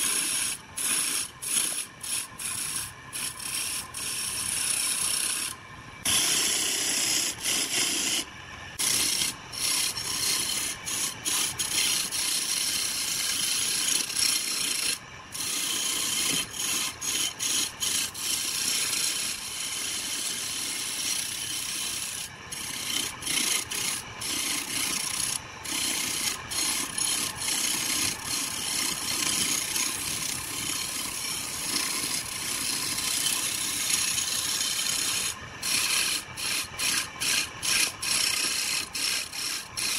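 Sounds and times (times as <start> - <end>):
chisel scraping spinning wood: 0.0 - 39.9.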